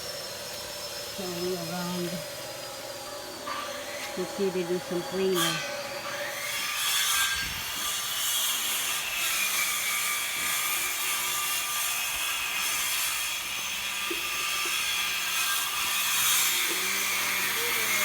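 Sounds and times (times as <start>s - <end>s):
saw cutting wood: 0.0s - 18.0s.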